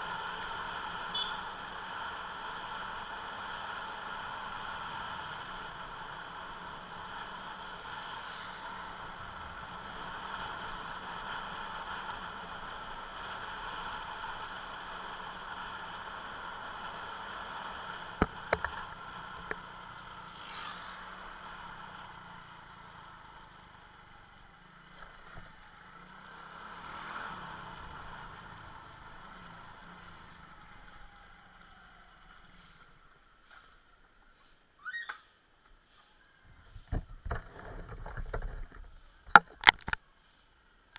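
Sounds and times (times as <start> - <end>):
vehicles passing: 0.0 - 34.6
road traffic noise: 0.0 - 39.5.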